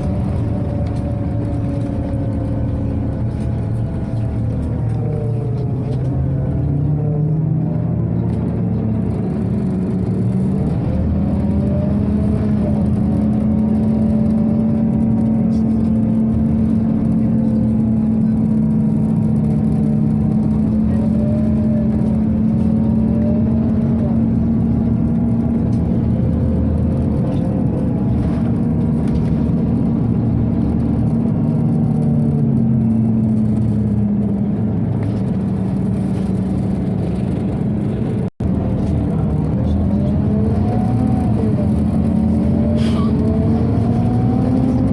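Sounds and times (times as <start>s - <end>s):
bus engine and drivetrain: 0.0s - 44.9s.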